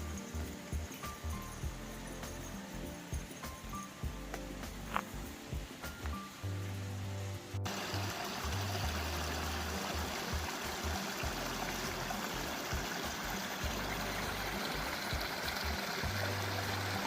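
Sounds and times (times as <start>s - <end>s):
background music: 0.0s - 17.0s
river water running: 0.0s - 17.0s.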